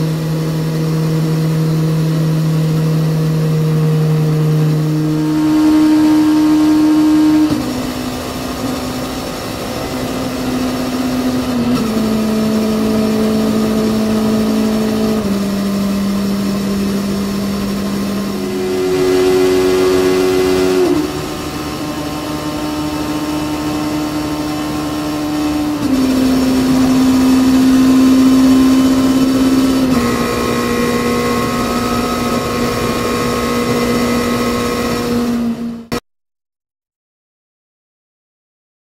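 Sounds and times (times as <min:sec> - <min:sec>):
motorcycle engine at high revs: 0:00.0 - 0:36.0.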